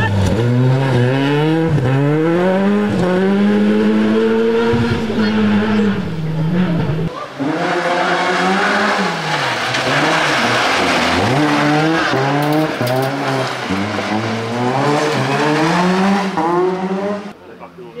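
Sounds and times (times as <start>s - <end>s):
rally car engine revving: 0.0s - 17.4s.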